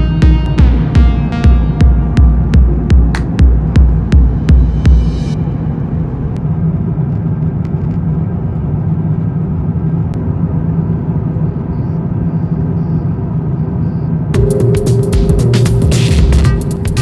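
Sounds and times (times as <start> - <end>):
jet airliner cabin rumble: 0.0 - 14.3.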